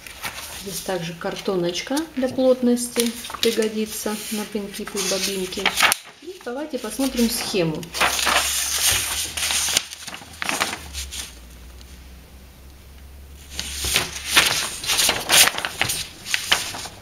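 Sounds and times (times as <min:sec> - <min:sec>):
paper rustling: 0:00.0 - 0:11.4, 0:13.4 - 0:17.0.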